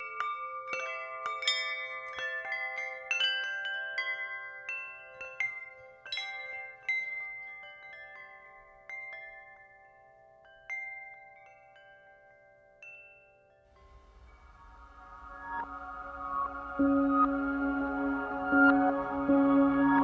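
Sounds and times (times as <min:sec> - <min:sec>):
wind chimes ringing: 0:00.0 - 0:20.0.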